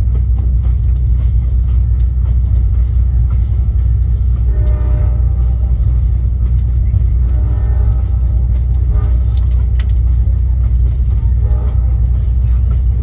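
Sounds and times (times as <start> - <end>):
train rumbling along rails: 0.0 - 13.0.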